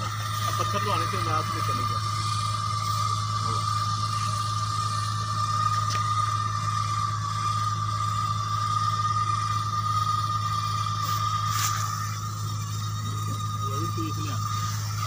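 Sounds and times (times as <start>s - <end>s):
welding machine whine over hum: 0.0s - 15.0s.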